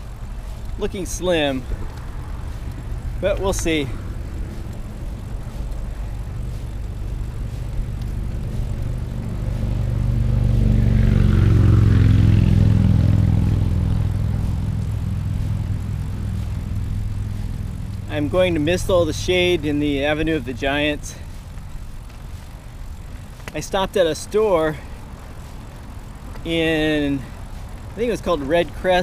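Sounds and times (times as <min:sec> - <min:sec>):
passing rush with low hum: 0:00.0 - 0:29.0
road rumble: 0:00.0 - 0:29.0.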